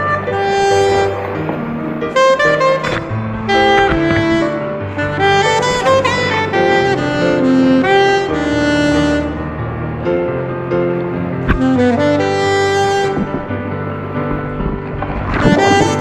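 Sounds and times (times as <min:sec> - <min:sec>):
jazz melody over bass: 0:00.0 - 0:16.0.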